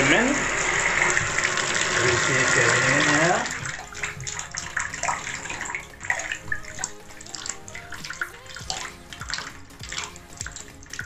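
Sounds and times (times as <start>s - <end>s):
water running into bathtub: 0.0s - 11.0s.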